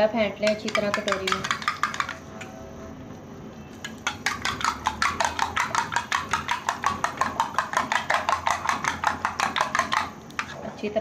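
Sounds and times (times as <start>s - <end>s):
spoon beating egg in bowl: 0.4s - 2.3s, 3.8s - 10.7s.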